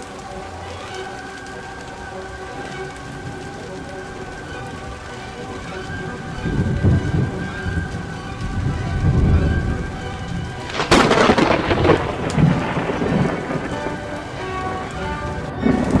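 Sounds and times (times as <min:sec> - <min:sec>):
heavy rain falling: 0:00.0 - 0:16.0
thunder rumbling and clapping: 0:00.0 - 0:16.0.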